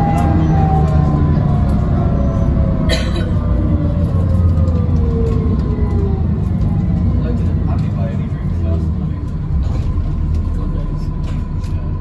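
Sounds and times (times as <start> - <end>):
bus engine drone with whine: 0.0 - 12.0.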